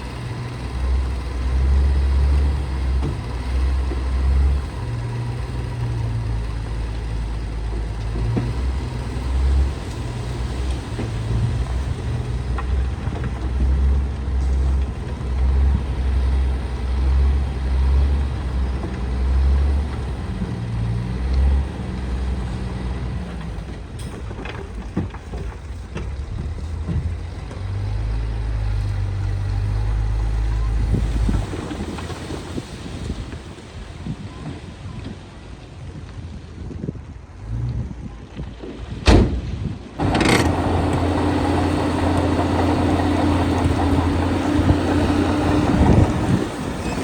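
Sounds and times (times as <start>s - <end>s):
heavy diesel engine rumbling: 0.0s - 32.9s, 40.0s - 47.0s.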